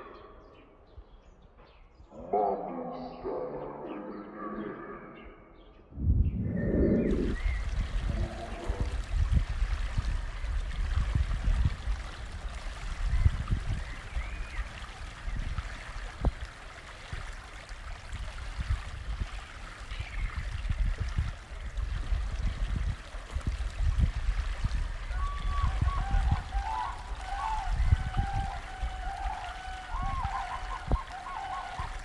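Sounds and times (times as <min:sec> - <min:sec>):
wind buffeting microphone: 0:05.9 - 0:32.0.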